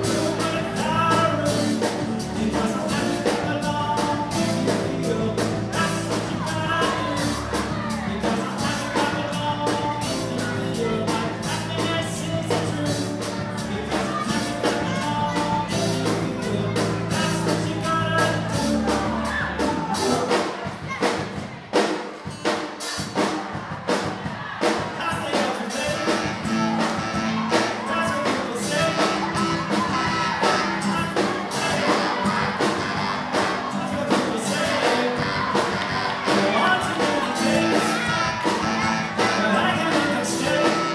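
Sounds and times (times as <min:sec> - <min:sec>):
person singing: 0:00.0 - 0:20.6, 0:25.0 - 0:40.9
drum kit: 0:00.0 - 0:40.9
live rock band playing: 0:00.0 - 0:40.9.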